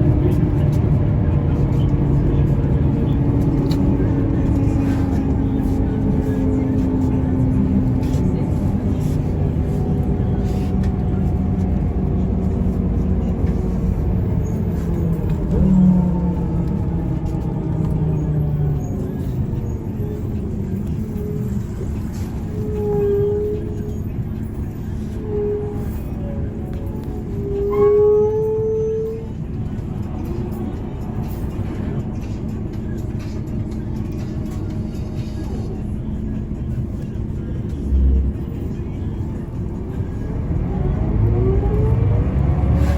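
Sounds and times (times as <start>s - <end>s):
bus engine drone: 0.0s - 42.9s
road rumble: 0.0s - 42.9s.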